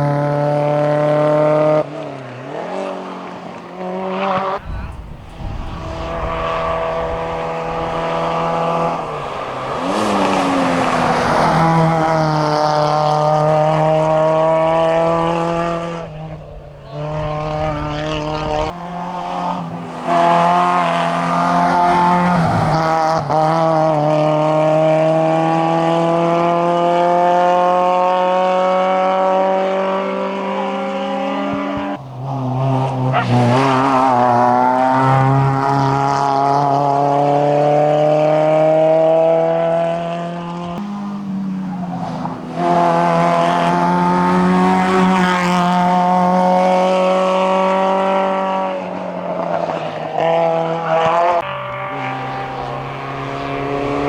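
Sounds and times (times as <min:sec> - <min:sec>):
rally car engine at full throttle: 0:00.0 - 0:54.0.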